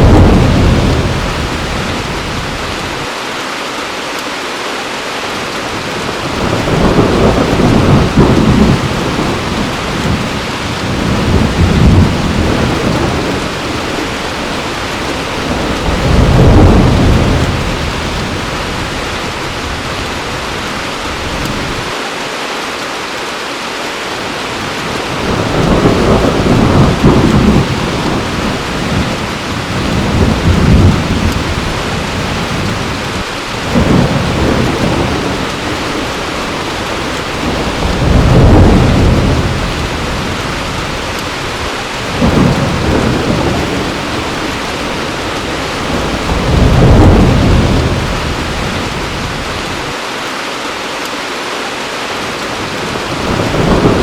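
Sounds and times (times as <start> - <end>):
low rolling thunder: 0.0 - 3.1, 5.7 - 22.0, 24.6 - 50.0, 52.6 - 54.0
heavy rain falling: 0.0 - 54.0.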